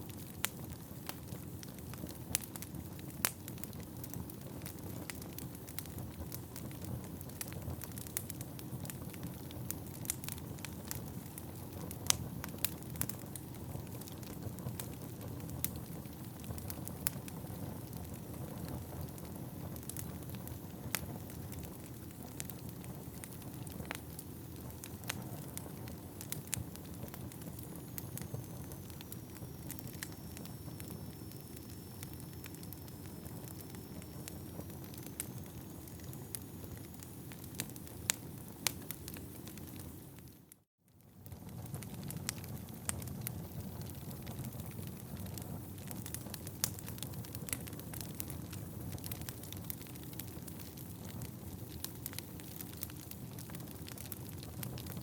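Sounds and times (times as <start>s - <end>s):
burning logs crackling and popping: 0.0s - 55.0s.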